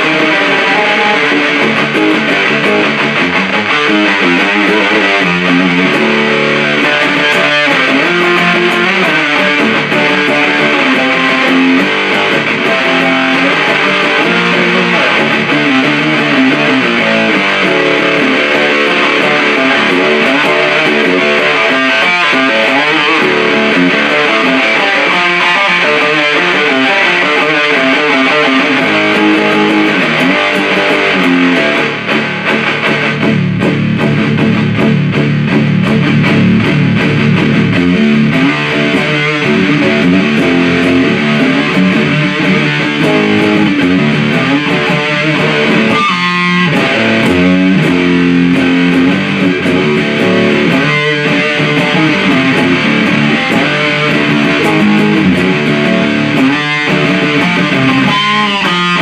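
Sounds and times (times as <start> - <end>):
fuzz electric guitar riffing: 0.0 - 59.0.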